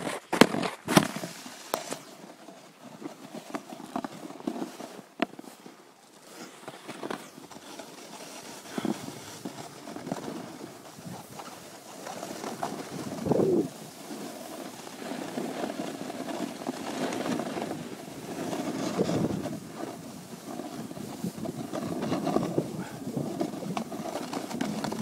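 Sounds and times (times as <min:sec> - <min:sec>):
skis sliding on snow: 0:00.0 - 0:25.0.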